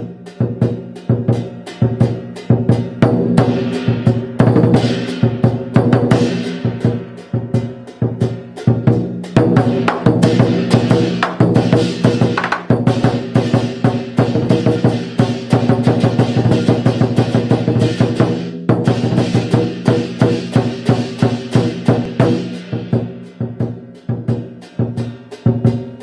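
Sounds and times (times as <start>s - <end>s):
cymbal crashes: 0.0s - 26.0s
fast driving drum beat: 0.0s - 26.0s.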